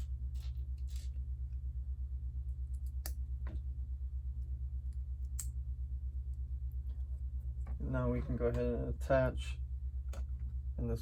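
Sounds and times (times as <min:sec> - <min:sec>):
wavering low hum: 0:00.0 - 0:11.0.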